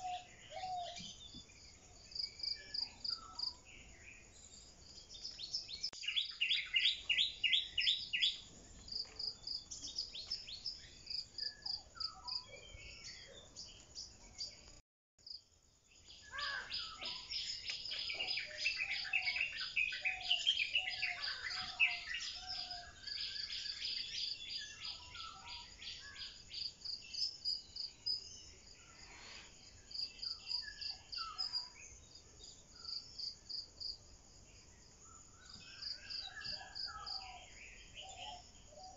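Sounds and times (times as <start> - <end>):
birds chirping: 0.0 - 14.8, 16.0 - 33.2
insect trill: 0.0 - 38.9.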